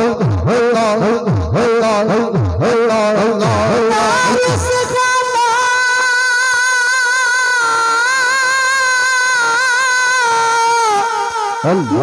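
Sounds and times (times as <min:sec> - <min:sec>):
man singing long high note: 0:00.0 - 0:12.0.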